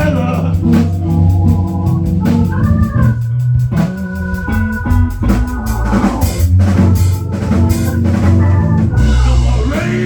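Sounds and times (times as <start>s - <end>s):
drums: 0.0s - 10.0s
held organ chords: 0.0s - 10.0s
moving bass line: 0.0s - 10.0s.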